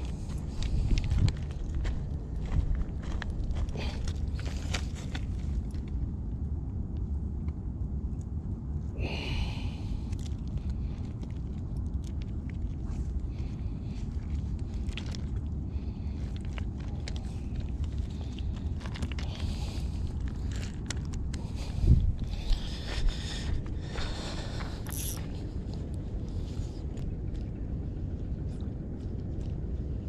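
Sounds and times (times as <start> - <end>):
stones clicking and crunching: 0.0 - 6.0, 9.9 - 30.0
low rumble: 0.0 - 30.0.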